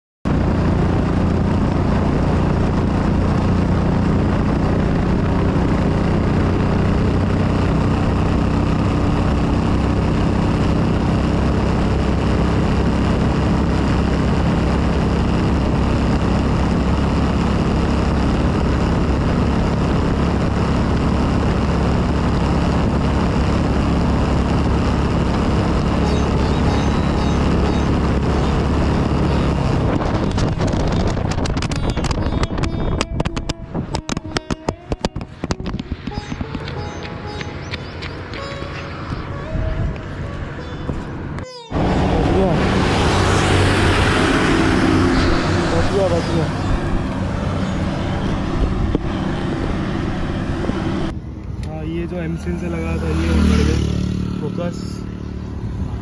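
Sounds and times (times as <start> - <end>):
motorcycle engine cruising: 0.3 - 56.0
wind and road noise: 0.3 - 56.0.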